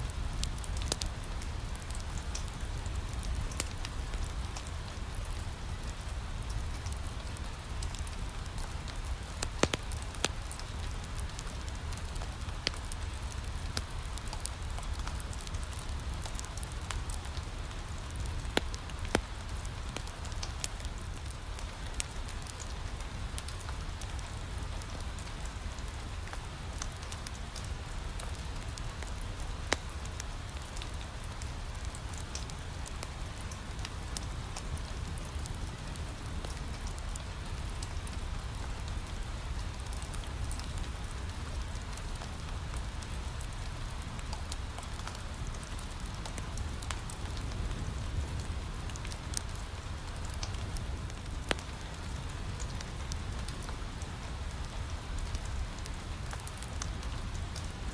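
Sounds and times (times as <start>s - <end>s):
rain on a window: 0.0s - 57.9s
wood fire crackling: 0.1s - 57.9s.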